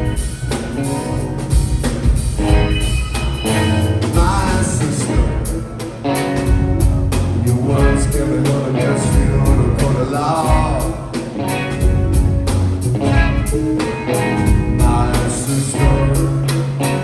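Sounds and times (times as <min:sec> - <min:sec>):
sustained pitched notes: 0:00.0 - 0:16.7
drums: 0:00.0 - 0:17.0
guitar: 0:00.0 - 0:17.0
heavy bass line: 0:00.0 - 0:17.0.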